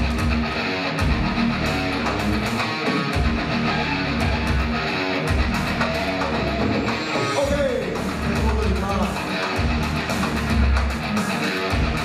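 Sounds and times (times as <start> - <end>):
guitar music with pulsing bass: 0.0 - 12.0.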